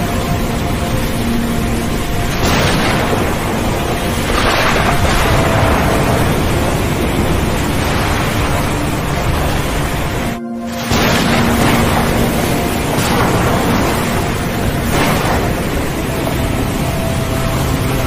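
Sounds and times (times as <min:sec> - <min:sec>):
breaking surf: 0:00.0 - 0:18.0
faint held musical tones: 0:00.0 - 0:18.0
wind and waves rushing: 0:00.0 - 0:18.0.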